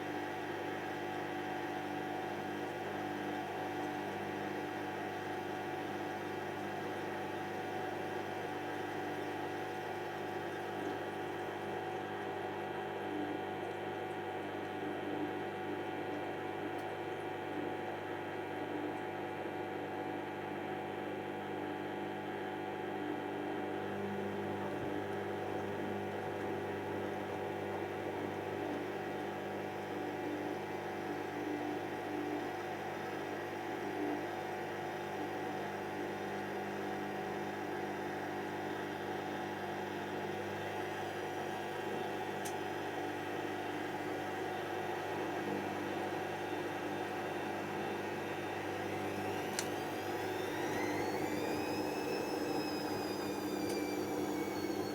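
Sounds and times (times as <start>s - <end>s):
washing machine humming: 0.0s - 54.9s.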